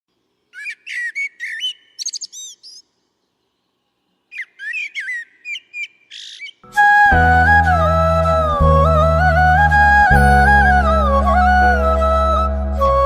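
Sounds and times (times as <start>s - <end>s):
bird chirping whistled notes: 0.5s - 2.9s, 4.3s - 13.0s.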